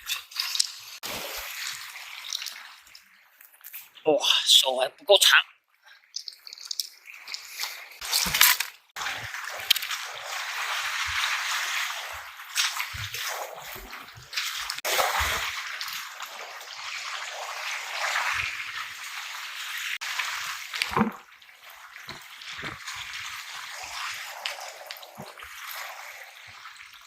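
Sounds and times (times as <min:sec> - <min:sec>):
sea water sloshing over rocks: 0:00.0 - 0:03.3, 0:06.0 - 0:27.0.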